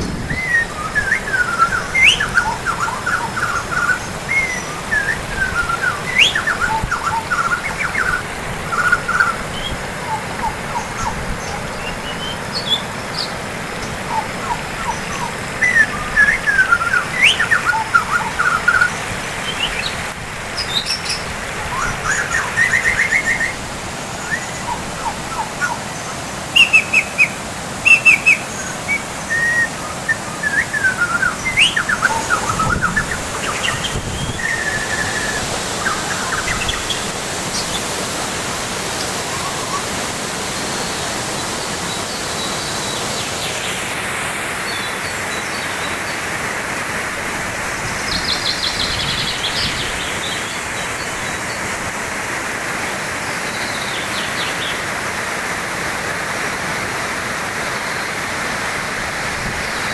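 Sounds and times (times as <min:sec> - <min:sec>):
birds chirping and trilling: 0:00.0 - 0:46.4, 0:47.3 - 0:51.9
waterfall rushing: 0:00.0 - 0:59.9.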